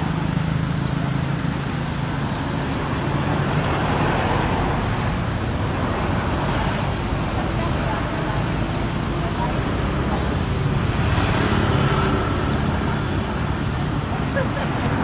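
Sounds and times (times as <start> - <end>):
road vehicle rushing: 0.0 - 15.0.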